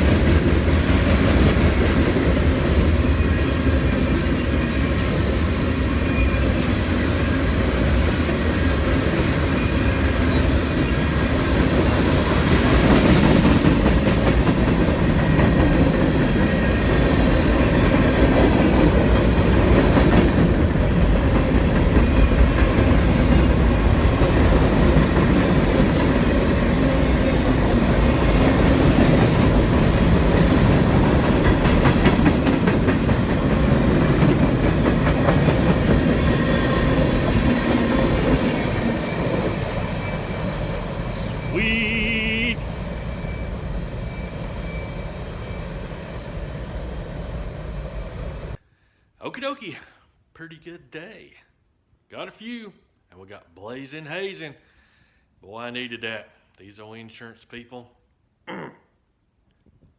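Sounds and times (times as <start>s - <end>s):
freight train wheels rumbling: 0.0s - 48.6s.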